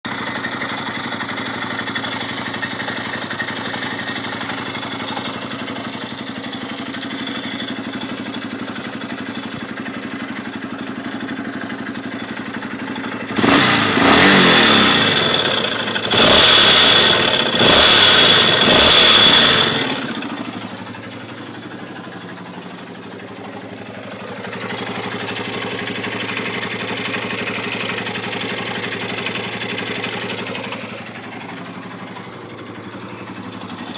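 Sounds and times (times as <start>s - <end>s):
quad engine idling and revving: 0.0s - 33.9s.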